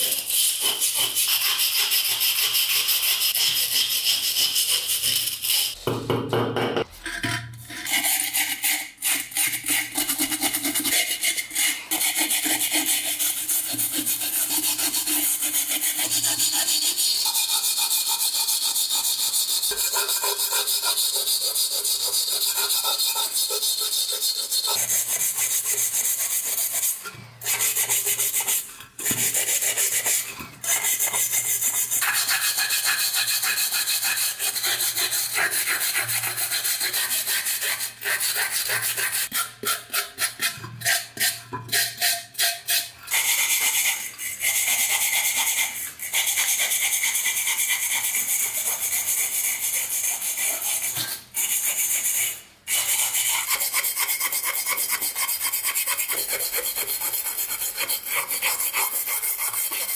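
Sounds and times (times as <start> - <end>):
brush scrubbing metal: 0.0 - 5.8, 7.0 - 59.9.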